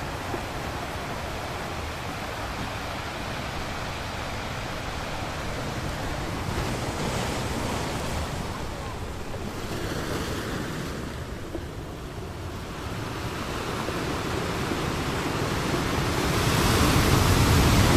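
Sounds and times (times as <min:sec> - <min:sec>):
ocean waves breaking on beach: 0:00.0 - 0:17.9.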